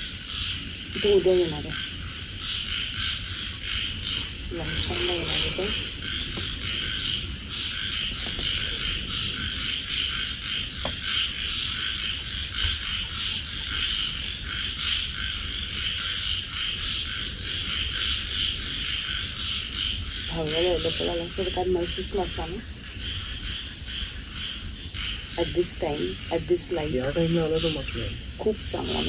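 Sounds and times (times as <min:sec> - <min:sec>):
frogs calling: 0:00.0 - 0:29.0.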